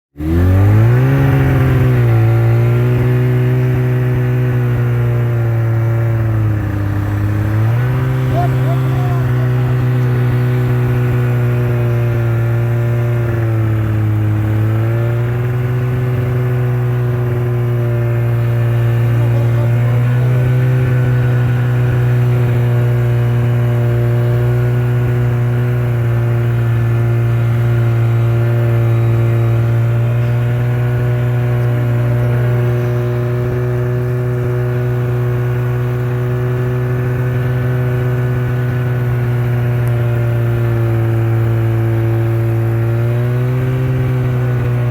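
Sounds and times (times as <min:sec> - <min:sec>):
motorcycle engine running: 0:00.1 - 0:44.9.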